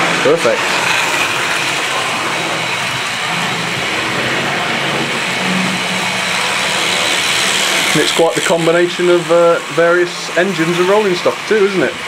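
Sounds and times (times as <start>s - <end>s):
model trains running on track: 0.0s - 12.0s.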